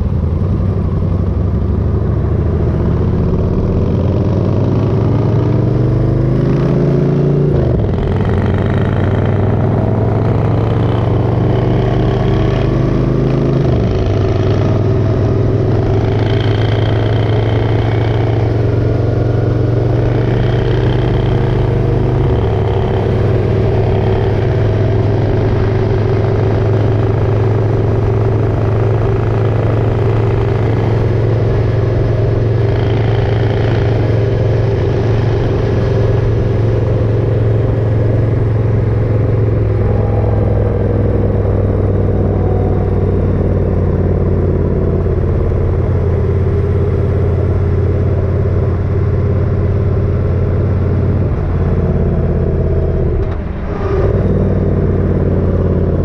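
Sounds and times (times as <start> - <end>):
motorcycle engine shifting up: 7.4 - 56.0.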